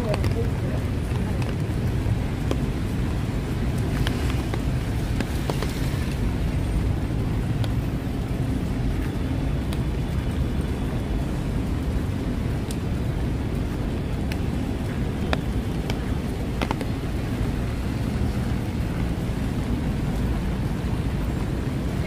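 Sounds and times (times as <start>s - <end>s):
road traffic rumble: 0.0s - 22.0s
steady rain: 0.0s - 22.0s.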